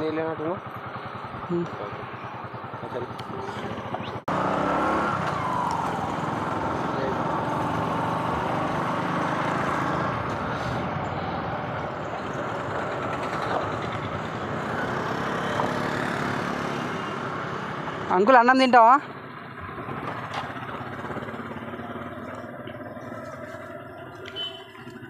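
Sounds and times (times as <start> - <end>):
motorbike engine running: 0.0 - 25.0
road and wind noise: 0.0 - 25.0.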